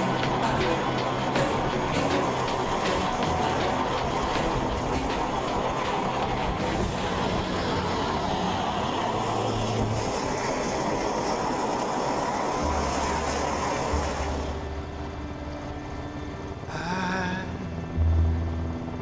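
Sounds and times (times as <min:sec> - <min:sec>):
helicopter rotor and engine: 0:00.0 - 0:16.7
wind rushing over microphone: 0:00.0 - 0:16.8.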